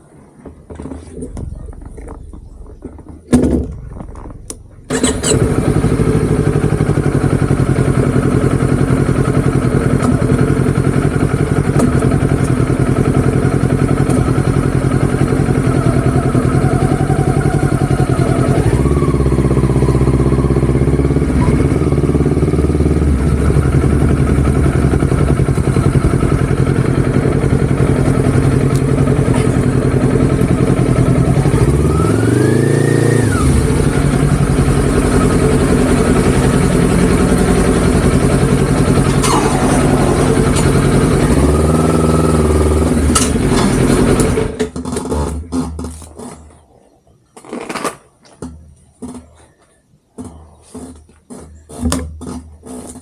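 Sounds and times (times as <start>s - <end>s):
vehicle engine running: 0.7s - 44.8s.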